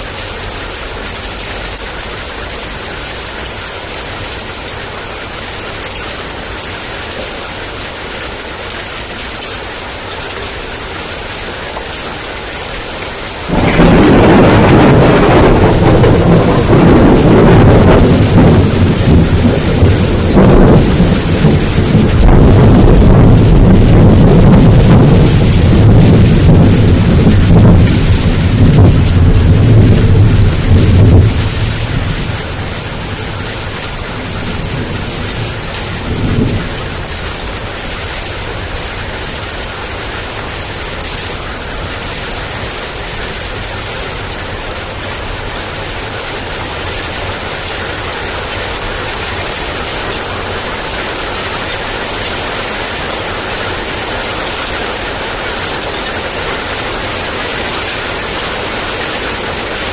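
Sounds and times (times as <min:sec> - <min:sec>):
heavy rain: 0:00.0 - 0:59.9
thunder rumbling: 0:11.1 - 0:59.9.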